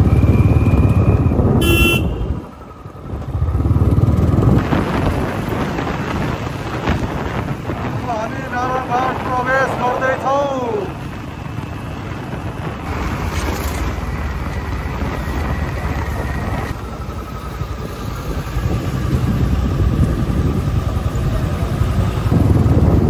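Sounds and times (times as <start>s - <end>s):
motorcycle engine riding: 0.0s - 23.0s
wind buffeting microphone: 0.0s - 23.0s.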